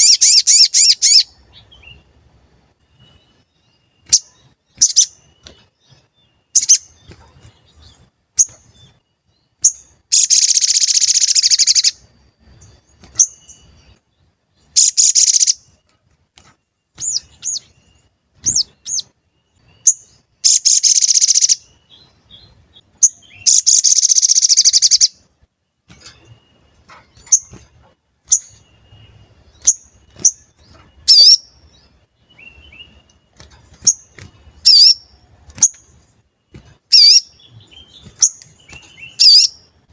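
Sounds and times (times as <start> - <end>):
bird chirping and trilling: 0.0 - 2.2, 2.9 - 15.9, 16.8 - 39.9.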